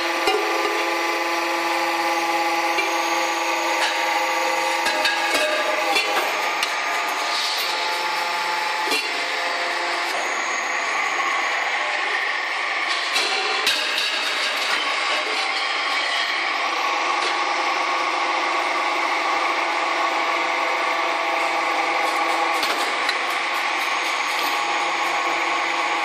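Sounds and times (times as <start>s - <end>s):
press machine hum: 0.0s - 13.8s, 15.8s - 26.0s.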